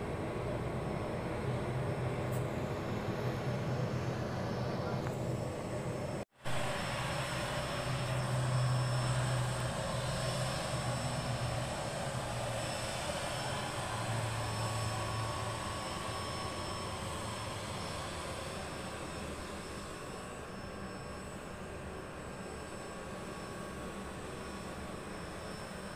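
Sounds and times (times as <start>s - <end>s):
distant jet airliner taking off: 0.0s - 25.9s.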